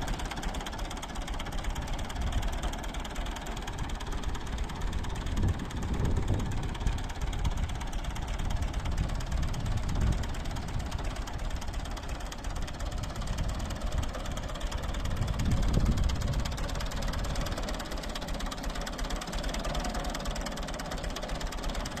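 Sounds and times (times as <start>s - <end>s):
tractor engine misfiring: 0.0s - 22.0s.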